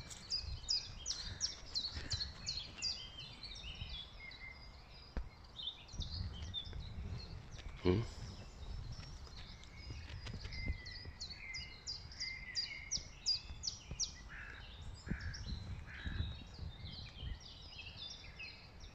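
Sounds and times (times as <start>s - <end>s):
small songbirds singing: 0.0s - 18.9s.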